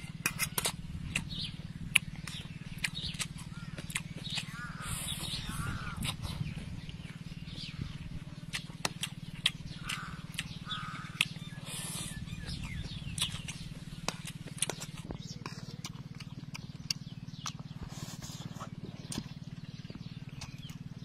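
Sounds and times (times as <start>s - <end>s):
steady low hum: 0.0s - 21.0s
wet chewing with mouth clicks: 0.0s - 21.0s.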